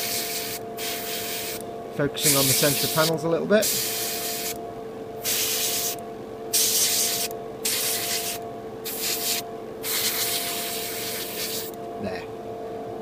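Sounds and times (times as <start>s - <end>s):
airbrush spraying hiss: 0.0s - 1.6s, 2.2s - 4.6s, 5.2s - 11.8s
steady machine hum: 0.0s - 13.0s.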